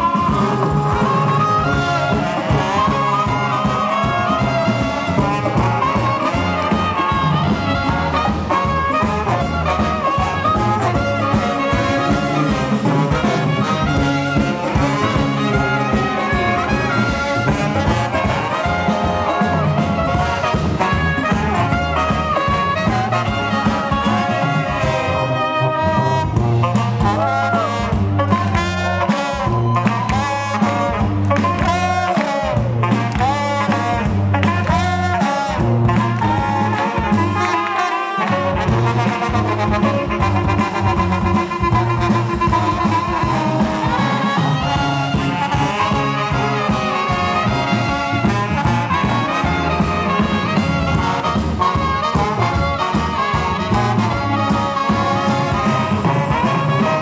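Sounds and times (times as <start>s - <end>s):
sousaphone bass line: 0.0s - 37.6s, 38.3s - 57.0s
drum kit: 0.0s - 57.0s
trombone: 0.0s - 57.0s
trumpet: 0.0s - 57.0s.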